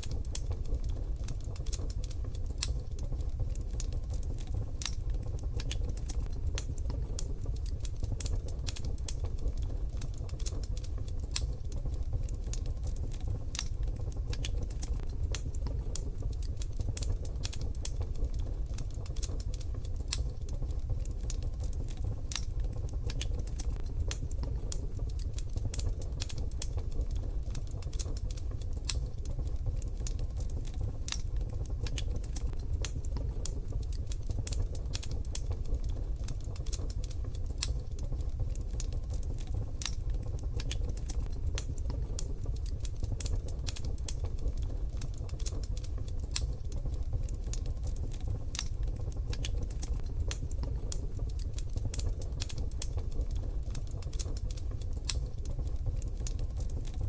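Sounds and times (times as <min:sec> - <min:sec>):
low rumble of stove: 0:00.0 - 0:57.0
wood fire crackling: 0:00.0 - 0:57.0.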